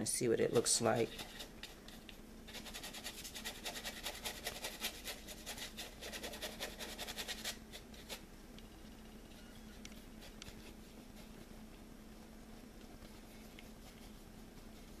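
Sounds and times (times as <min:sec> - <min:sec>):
paintbrush scrubbing canvas: 0:00.5 - 0:08.2, 0:10.0 - 0:15.0.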